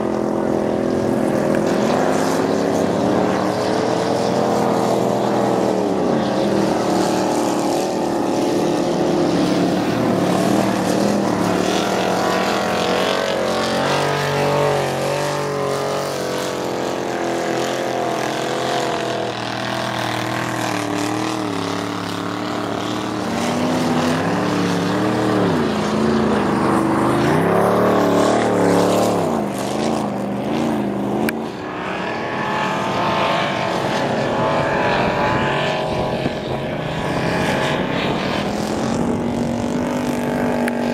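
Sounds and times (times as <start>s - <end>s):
racing car engines revving: 0.0s - 40.9s.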